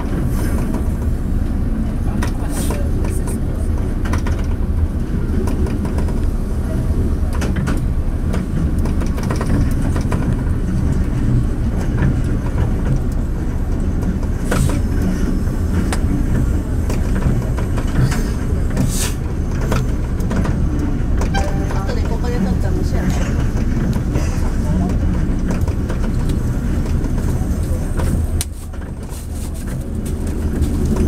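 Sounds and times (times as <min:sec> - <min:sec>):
train engine and wheels rumbling: 0:00.0 - 0:31.0.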